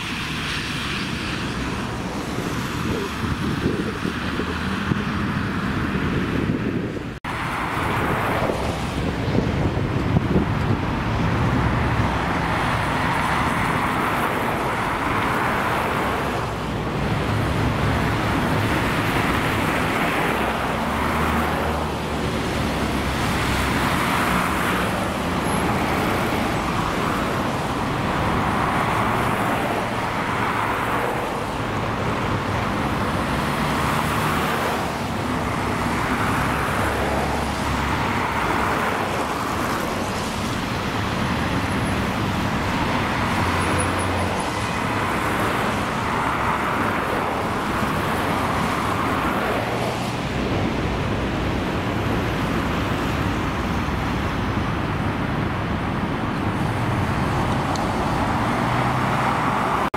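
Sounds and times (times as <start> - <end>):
traffic on wet road: 0.0 - 59.9.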